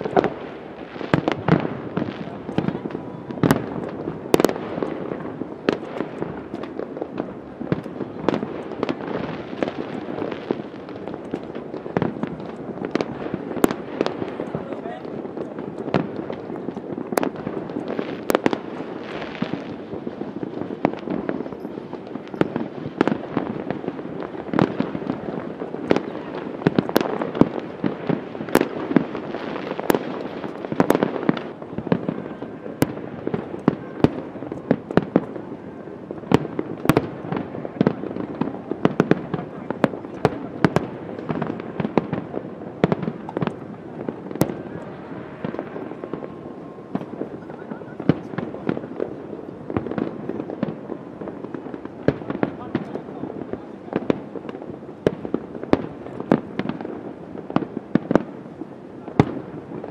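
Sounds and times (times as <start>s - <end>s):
fireworks crackling and rumbling: 0.0s - 59.9s
fireworks sharp bangs: 0.0s - 59.9s.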